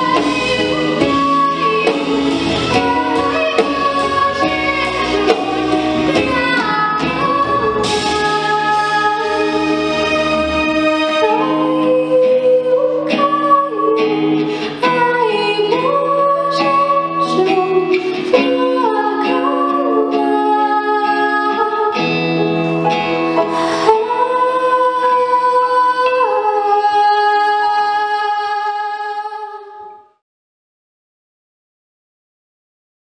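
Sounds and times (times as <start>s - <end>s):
girl singing into a microphone: 0.0s - 10.2s, 11.0s - 30.2s
instrumental accompaniment: 0.0s - 30.2s.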